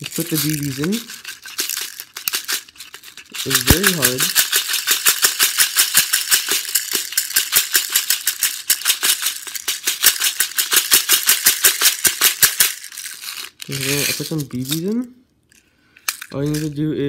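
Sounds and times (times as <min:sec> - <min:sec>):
plastic bbs rattling in bottle: 0:00.0 - 0:15.1, 0:16.0 - 0:16.8.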